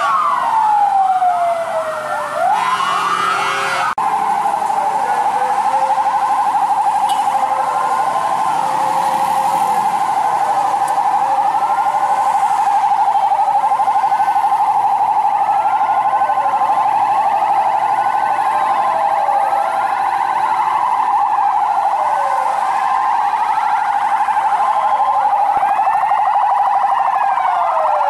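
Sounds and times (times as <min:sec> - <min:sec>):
emergency sirens wailing: 0:00.0 - 0:28.0
fast warbling siren: 0:00.0 - 0:28.0.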